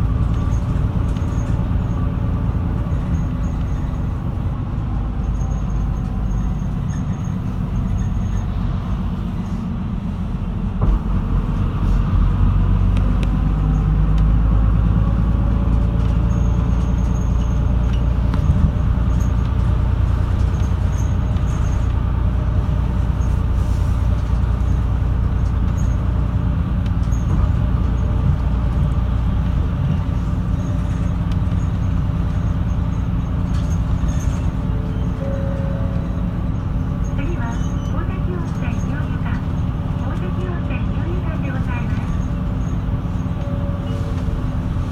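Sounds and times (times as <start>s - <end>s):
bus engine and road noise: 0.0s - 44.9s.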